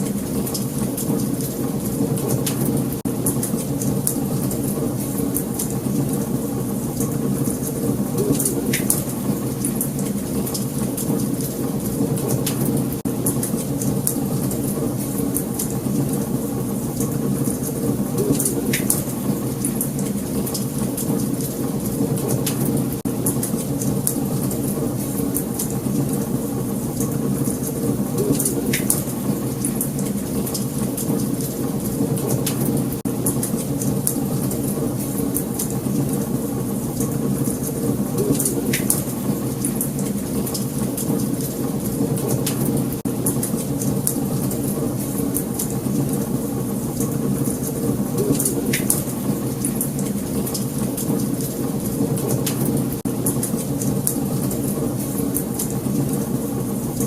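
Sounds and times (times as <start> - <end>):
wood fire crackles and pops: 0.0 - 57.0.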